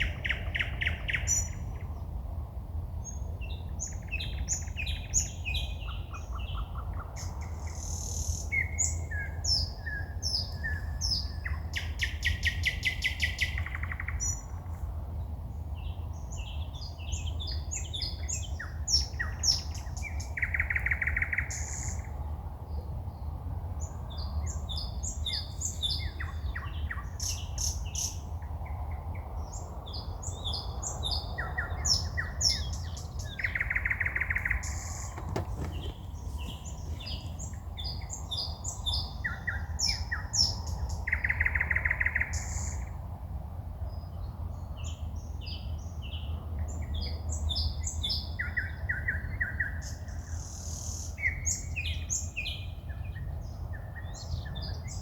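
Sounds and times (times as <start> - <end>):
songbird singing: 0.0 - 43.2, 43.8 - 55.0.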